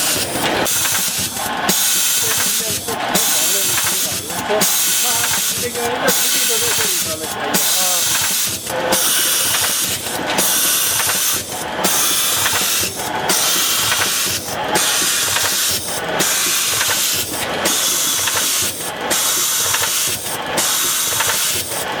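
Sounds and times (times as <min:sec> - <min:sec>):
spring coiling machine hissing: 0:00.0 - 0:22.0.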